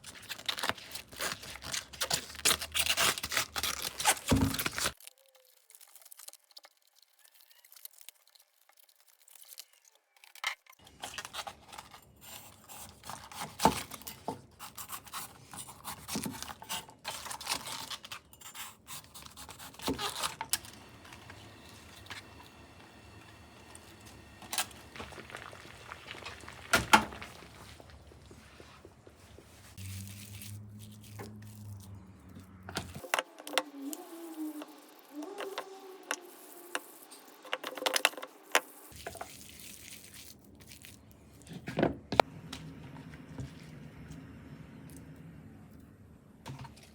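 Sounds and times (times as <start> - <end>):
cabbage leaves crinkling and tearing: 0.0 - 41.8.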